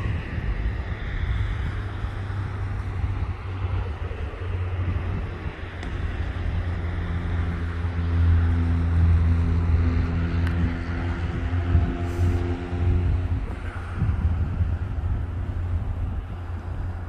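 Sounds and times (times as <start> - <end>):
engine low rumble: 0.0 - 17.0
steady engine hum: 0.0 - 17.0
wind buffeting microphone: 0.0 - 17.0.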